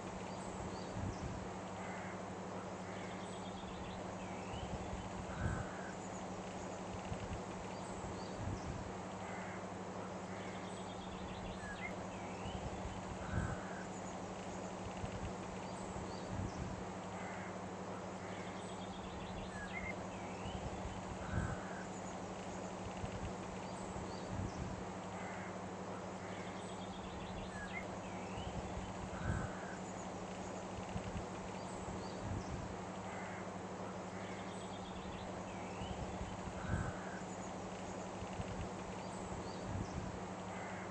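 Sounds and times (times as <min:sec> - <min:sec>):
bird calls: 0:00.0 - 0:40.9
steady hiss and low hum: 0:00.0 - 0:40.9.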